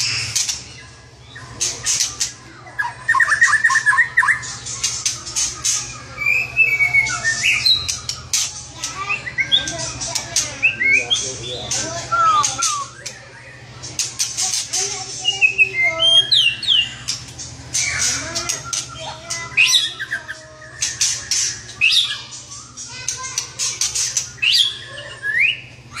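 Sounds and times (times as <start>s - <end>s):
bird singing varied song: 0.0s - 26.0s.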